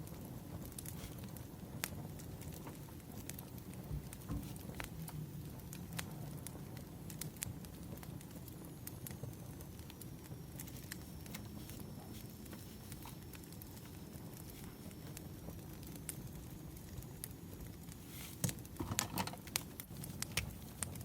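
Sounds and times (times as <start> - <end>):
rumble of burning logs: 0.0 - 21.0
wood fire crackling: 0.0 - 21.0.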